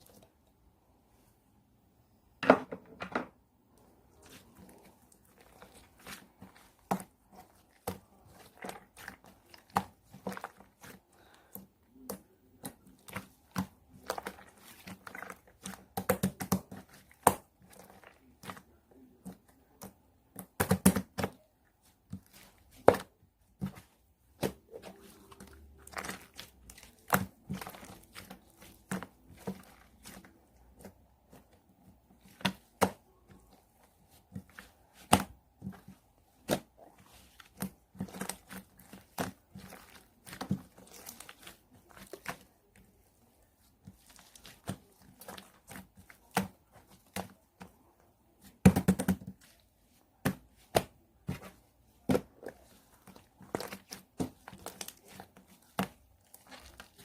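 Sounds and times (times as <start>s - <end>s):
hands squishing slime: 3.7s - 57.0s.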